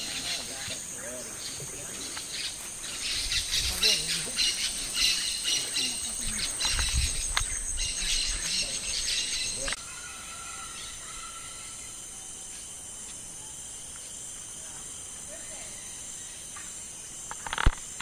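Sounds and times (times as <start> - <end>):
birds chirping: 0.0 - 18.0
insects chirping: 0.0 - 18.0
steady insect drone: 0.0 - 18.0.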